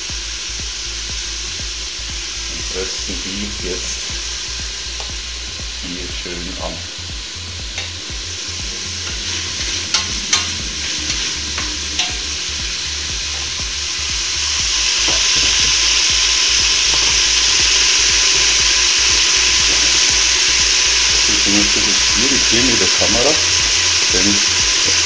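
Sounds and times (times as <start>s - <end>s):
bacon and onions sizzling: 0.0s - 25.0s.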